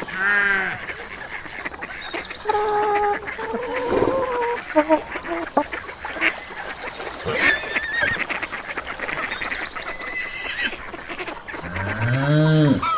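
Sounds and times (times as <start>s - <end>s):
geese honking: 0.0s - 12.9s
poultry warbling calls: 0.0s - 12.9s.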